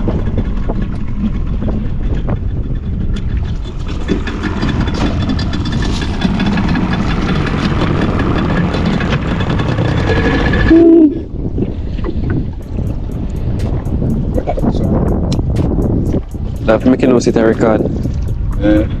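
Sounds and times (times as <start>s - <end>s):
boat engine running: 0.0s - 19.0s
water noise: 0.0s - 19.0s
wind: 0.0s - 19.0s.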